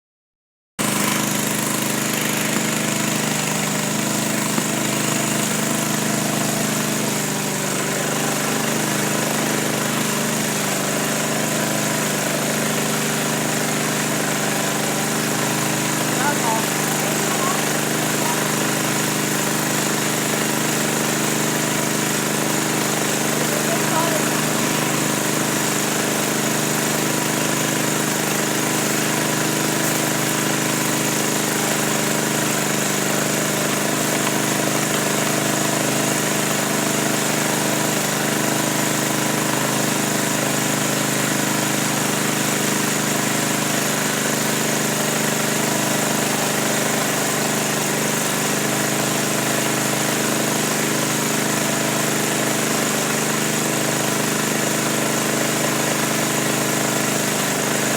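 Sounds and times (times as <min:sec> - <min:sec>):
motor humming: 0:00.8 - 0:57.9.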